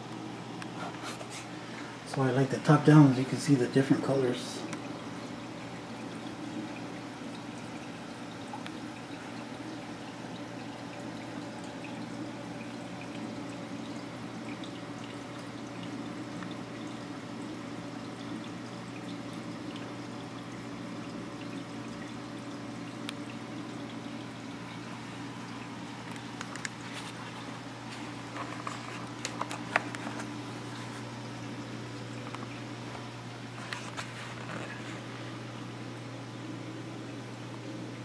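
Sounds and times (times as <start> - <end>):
pump humming: 0.0 - 38.0
water trickling and rushing: 4.0 - 37.9.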